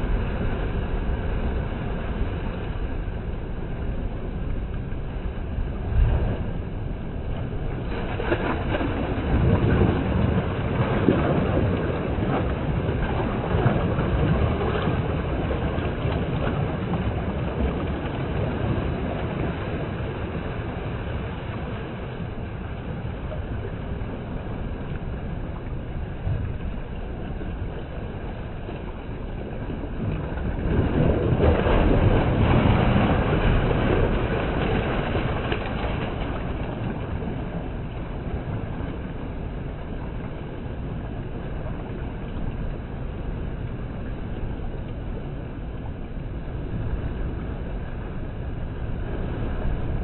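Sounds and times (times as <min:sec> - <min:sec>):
sea waves washing around rocks: 0:00.0 - 0:50.0.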